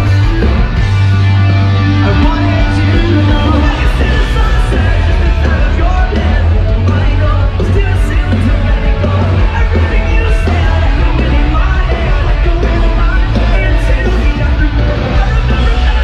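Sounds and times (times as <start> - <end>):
heavy rock music: 0.0 - 16.0.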